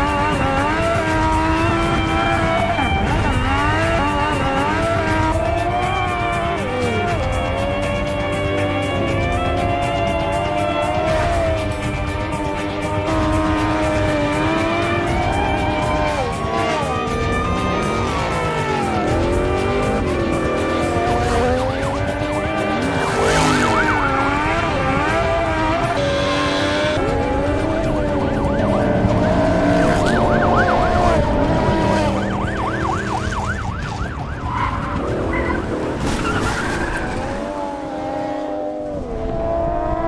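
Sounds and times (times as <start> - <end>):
tyres squealing and skidding: 0.0 - 37.8
car engines revving: 0.0 - 40.0.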